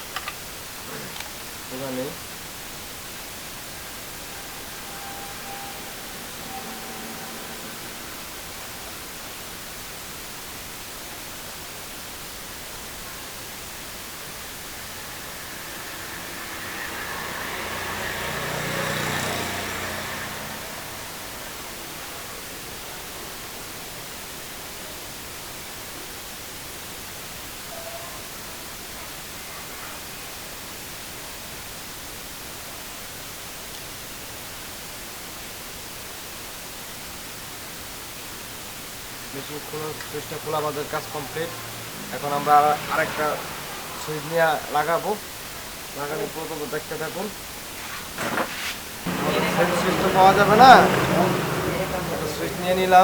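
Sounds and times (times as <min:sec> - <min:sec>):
steady hiss: 0:00.0 - 0:53.0.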